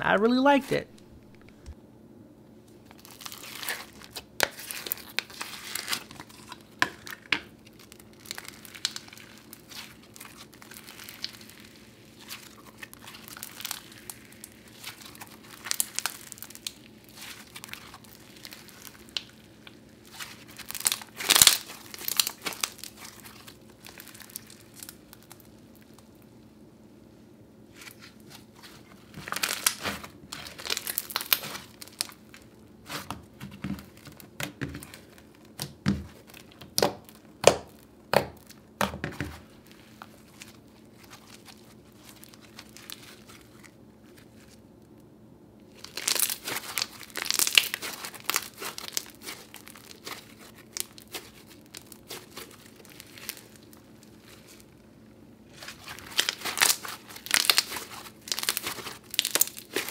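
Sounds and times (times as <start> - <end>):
slime crackling and crunching: 2.8 - 26.4, 27.7 - 44.9, 45.7 - 59.9.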